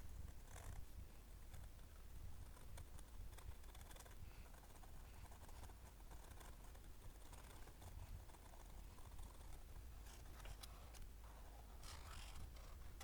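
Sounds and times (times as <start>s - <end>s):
faint light clicks and scratches: 0.1s - 13.0s.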